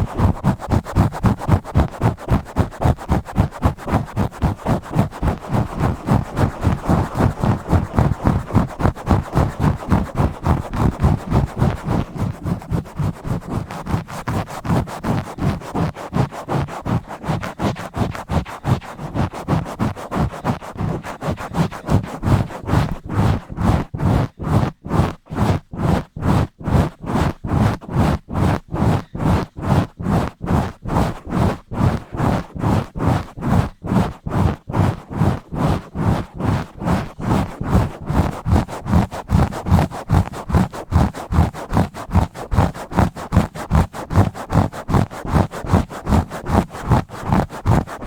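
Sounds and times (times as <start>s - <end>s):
scratching on microphone: 0.0s - 48.0s.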